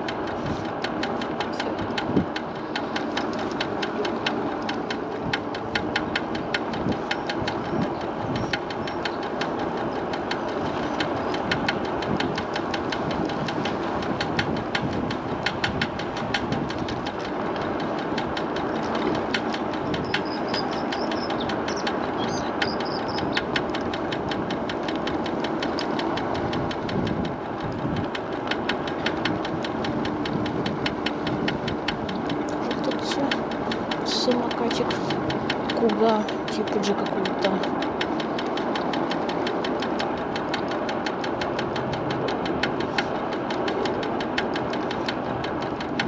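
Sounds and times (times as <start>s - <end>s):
front wheel knocking: 0.0s - 46.0s
road noise: 0.0s - 46.0s
wind noise: 0.0s - 46.0s.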